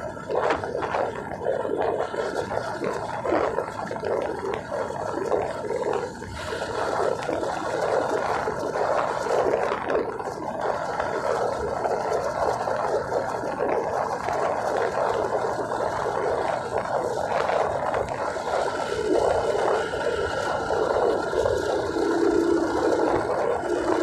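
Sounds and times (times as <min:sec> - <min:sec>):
steady hum: 0:00.0 - 0:24.0
vehicle road and engine noise: 0:00.0 - 0:24.0.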